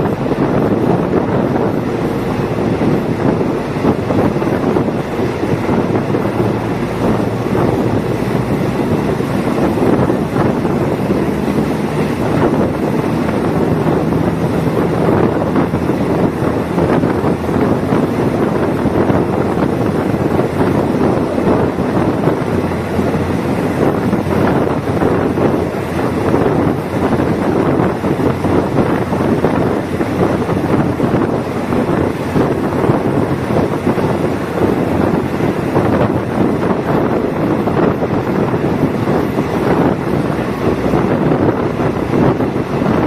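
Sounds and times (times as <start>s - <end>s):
diesel engine hum: 0.0s - 43.0s
train wheels rumbling on rail: 0.0s - 43.0s
wind buffeting microphone: 0.0s - 43.0s.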